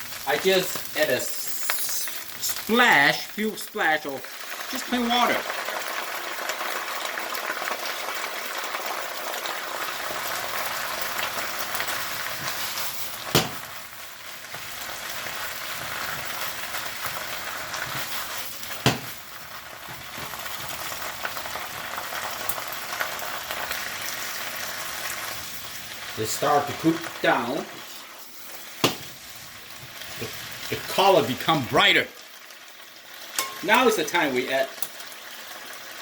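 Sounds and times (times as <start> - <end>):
vegetables sizzling in a pan: 0.0 - 36.0.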